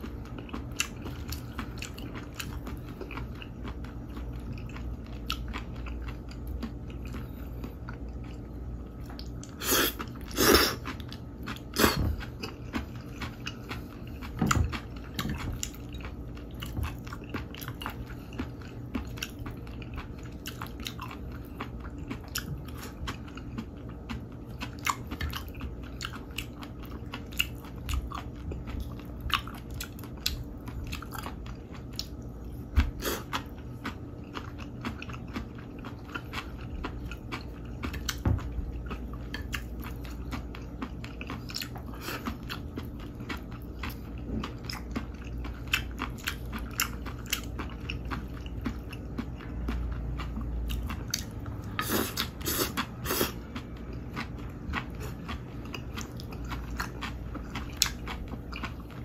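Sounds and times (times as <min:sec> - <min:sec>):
wet chewing and bites: 0:00.0 - 0:59.0.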